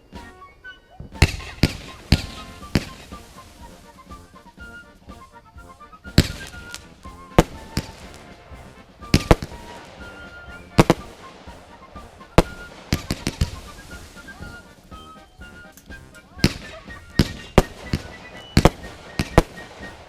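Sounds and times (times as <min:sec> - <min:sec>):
fireworks bangs: 0:01.2 - 0:20.0.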